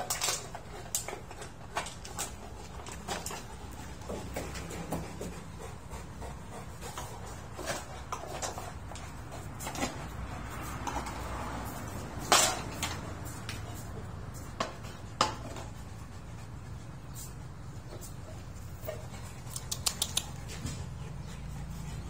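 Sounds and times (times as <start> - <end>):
dog clicking on tiled floor: 0.0 - 16.4, 17.9 - 21.0.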